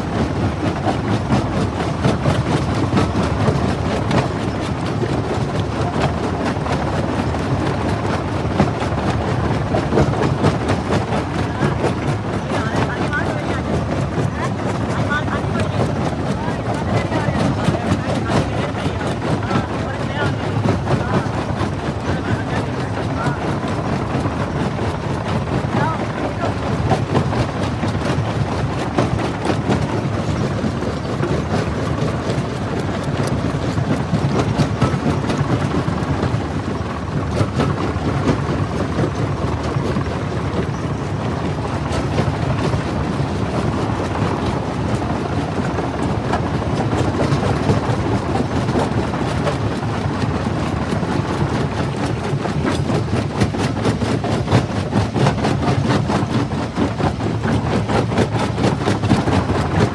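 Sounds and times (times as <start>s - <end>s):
rock crusher rumbling: 0.0s - 59.9s.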